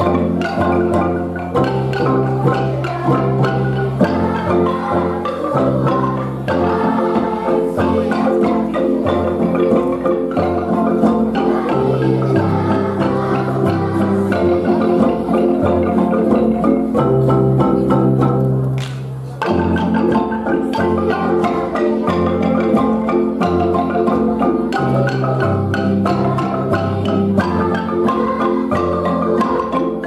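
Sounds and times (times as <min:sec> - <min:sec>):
wooden xylophone ensemble: 0:00.0 - 0:30.0.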